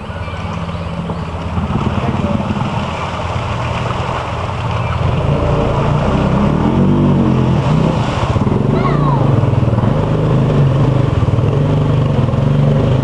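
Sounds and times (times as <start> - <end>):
atv engine running under load: 0.0 - 13.0
water splashing: 0.0 - 13.0.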